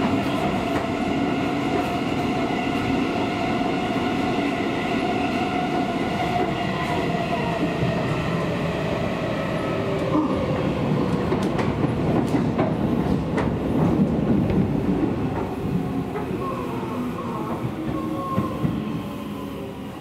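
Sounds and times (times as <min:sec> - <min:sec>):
electric train running on rails: 0:00.0 - 0:20.0.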